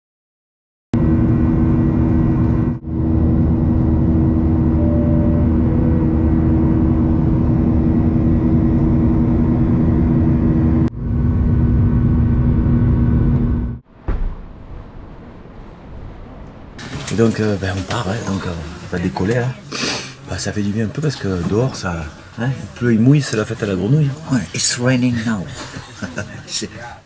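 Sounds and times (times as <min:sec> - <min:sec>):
jet engines droning in cabin: 0:01.0 - 0:27.0.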